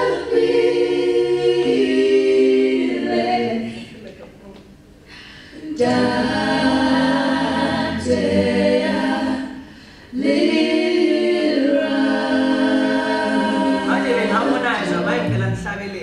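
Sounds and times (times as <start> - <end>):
vocal group singing in harmony: 0.0 - 4.2, 5.1 - 15.6.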